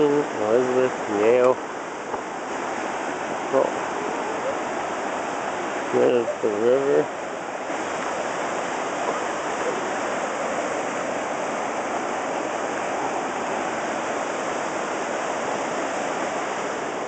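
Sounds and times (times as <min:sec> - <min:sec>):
whitewater rushing over rocks: 0:00.0 - 0:17.0.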